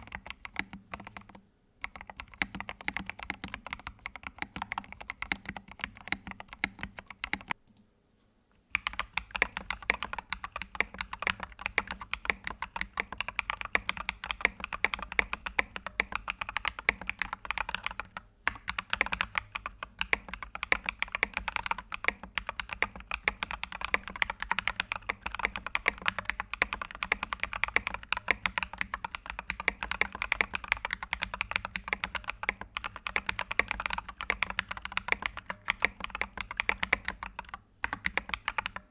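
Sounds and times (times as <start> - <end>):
typing on computer keyboard: 0.0 - 7.8, 8.7 - 38.9.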